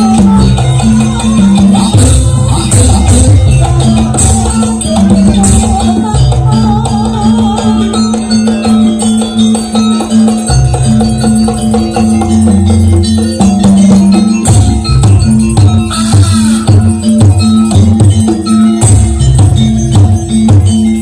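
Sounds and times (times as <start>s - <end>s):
fast drumming: 0.0s - 21.0s
metal percussion: 0.0s - 21.0s
wavering melodic line: 0.0s - 21.0s.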